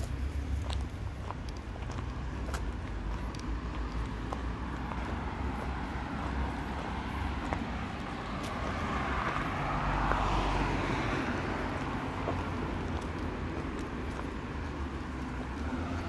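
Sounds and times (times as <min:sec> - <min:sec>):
traffic low rumble: 0:00.0 - 0:16.0
vehicle passing: 0:00.0 - 0:16.0.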